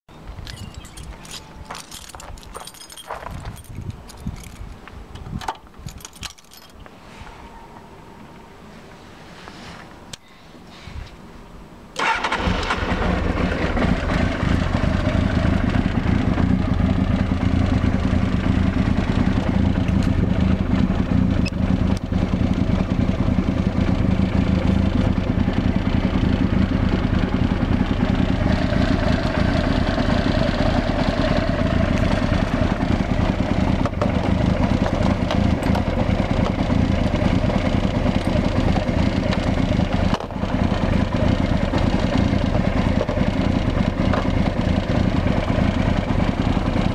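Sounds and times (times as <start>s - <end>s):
motorcycle engine idling: 0.2s - 6.8s, 12.0s - 46.9s.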